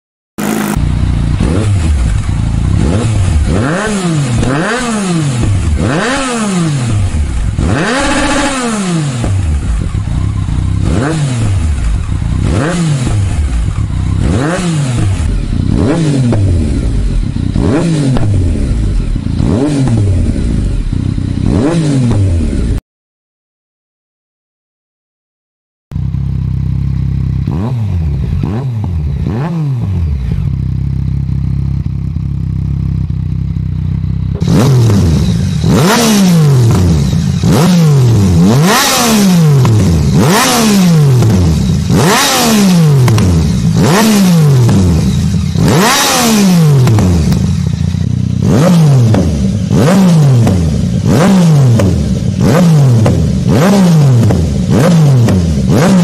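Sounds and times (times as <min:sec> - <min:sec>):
motorcycle engine revving: 0:00.4 - 0:22.8, 0:25.9 - 0:56.0.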